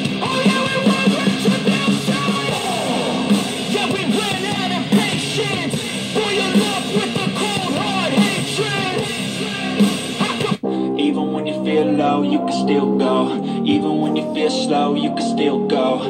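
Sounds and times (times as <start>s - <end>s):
rock song with singing: 0.0s - 16.0s.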